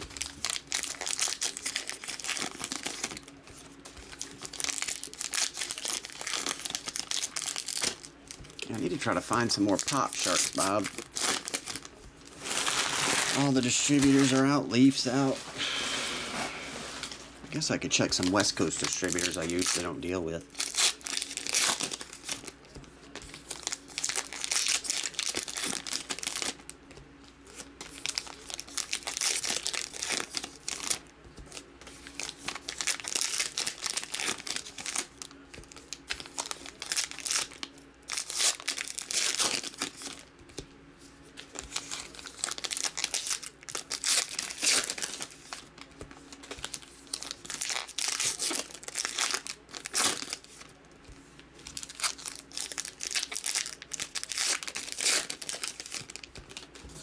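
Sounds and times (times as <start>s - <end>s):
wrappers crinkling and tearing: 0.0s - 15.5s, 16.7s - 40.6s, 41.3s - 57.0s.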